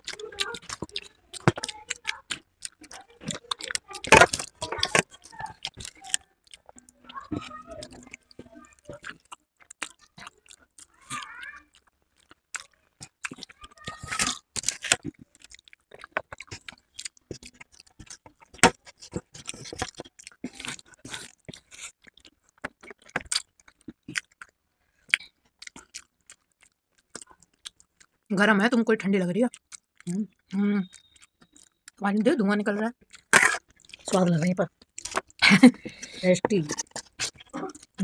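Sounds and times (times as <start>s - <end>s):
chewing and slurping: 0.0s - 28.2s, 29.5s - 32.0s, 33.0s - 38.0s.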